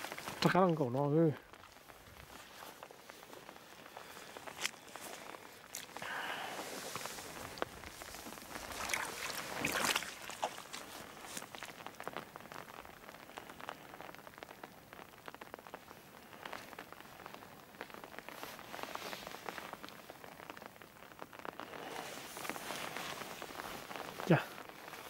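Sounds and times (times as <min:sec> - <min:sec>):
rain falling: 0:00.0 - 0:25.0
rustle of noise: 0:00.0 - 0:25.0.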